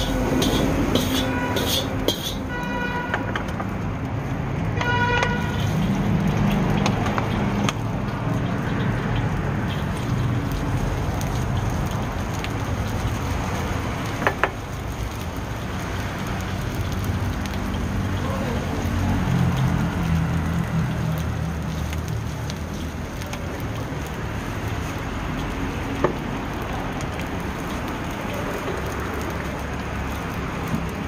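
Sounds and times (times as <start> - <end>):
oil sizzling in a wok: 0.0 - 31.0.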